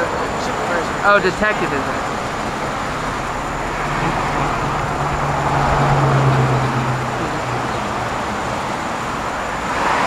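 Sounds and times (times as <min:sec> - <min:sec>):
road traffic passing: 0:00.0 - 0:10.0
vehicle engine drone: 0:00.0 - 0:10.0.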